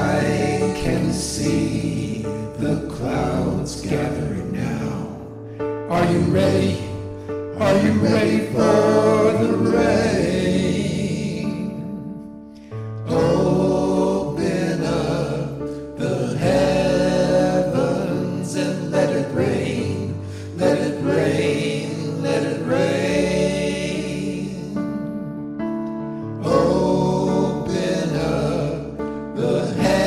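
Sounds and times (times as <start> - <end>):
choir singing gospel song: 0.0 - 5.3, 5.9 - 12.2, 13.0 - 25.3, 26.1 - 30.0
instrumental backing: 0.0 - 30.0.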